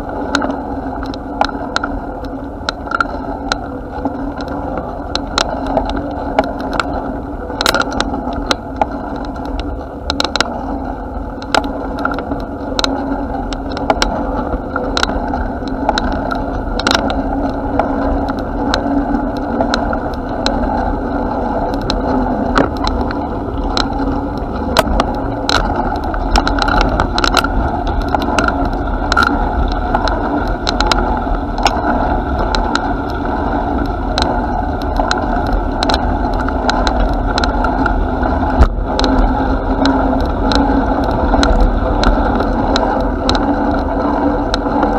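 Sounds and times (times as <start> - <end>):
bicycle rattling over bumps: 0.0 - 44.9
bicycle tyres rumbling: 0.0 - 44.9.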